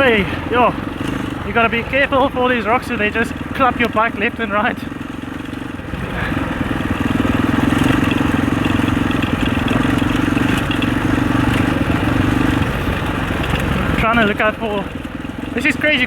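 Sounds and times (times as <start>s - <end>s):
motorcycle engine pulling under throttle: 0.0s - 16.0s.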